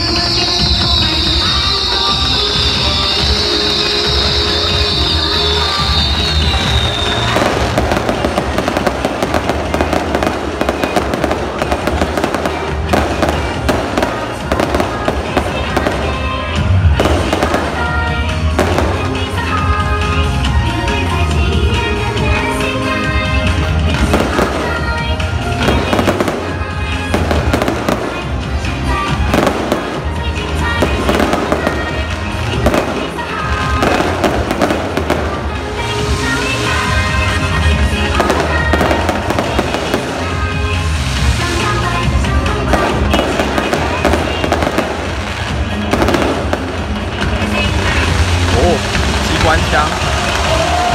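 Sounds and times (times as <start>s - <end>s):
fireworks crackling: 0.0s - 50.9s
loud music with steady beat: 0.0s - 50.9s.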